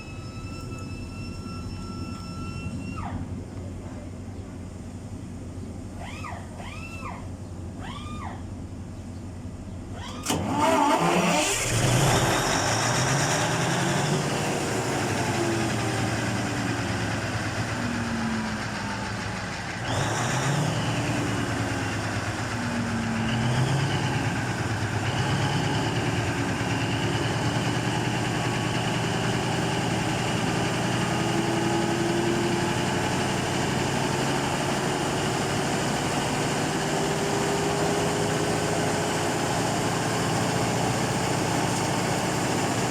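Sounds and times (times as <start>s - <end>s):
diesel engine starting and running: 0.0s - 42.9s.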